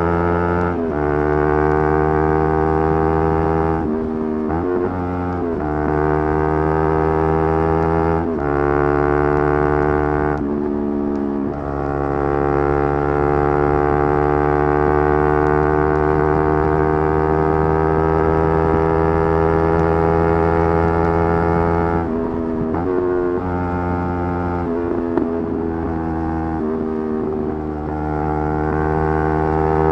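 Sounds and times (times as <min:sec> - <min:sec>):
motorcycle engine at high revs: 0:00.0 - 0:29.9.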